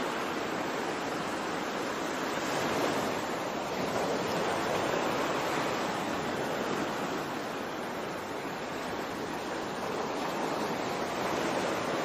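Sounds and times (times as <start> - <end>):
ocean waves washing in: 0.0 - 12.0.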